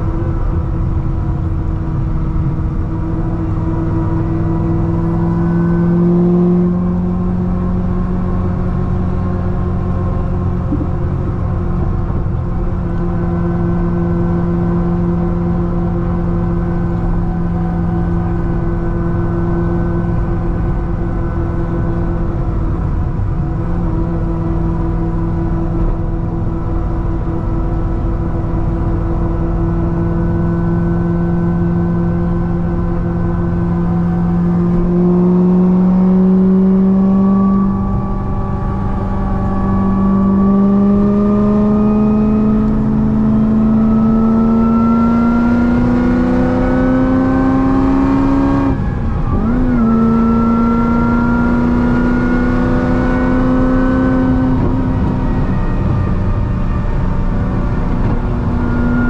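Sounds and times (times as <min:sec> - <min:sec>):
supercharged car engine at speed: 0:00.0 - 0:59.0.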